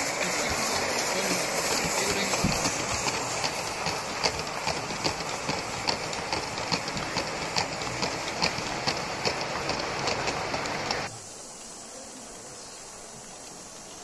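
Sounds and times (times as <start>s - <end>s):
wheels clicking over rail joints: 0.0s - 12.4s
steady hiss: 0.0s - 14.0s.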